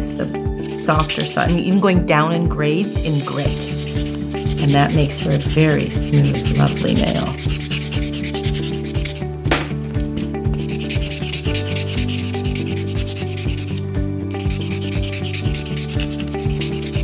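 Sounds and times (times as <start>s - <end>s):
nail file rubbing on nail: 0.0s - 2.0s, 2.6s - 17.0s
background music with held notes: 0.0s - 17.0s.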